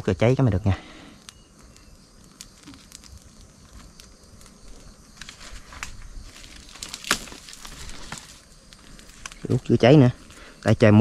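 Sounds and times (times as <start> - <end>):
leaves crackling and rustling: 0.4 - 11.0.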